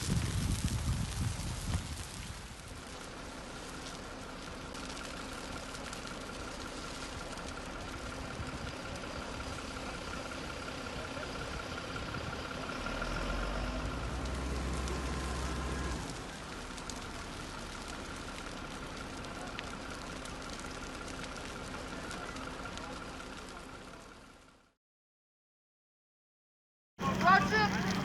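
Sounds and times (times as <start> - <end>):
deep rumble: 0.0 - 24.2
engine running: 0.0 - 24.7, 27.0 - 28.0.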